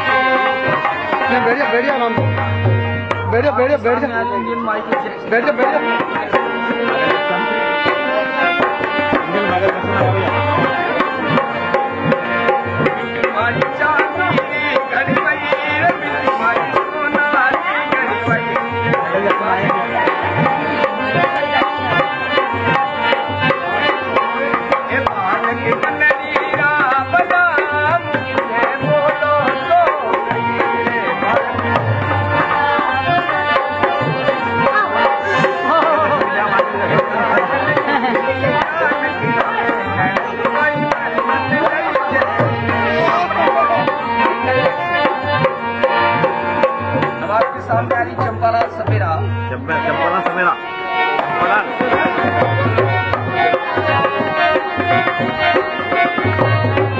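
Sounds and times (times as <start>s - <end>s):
fast hand-drum beat: 0.7s - 7.3s, 8.7s - 49.2s, 51.2s - 56.9s.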